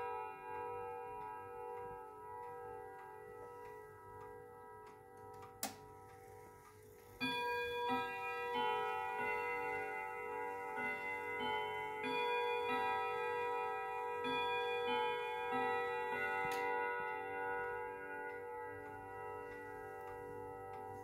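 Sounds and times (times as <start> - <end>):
clock chime melody on rods: 0.0 - 21.0.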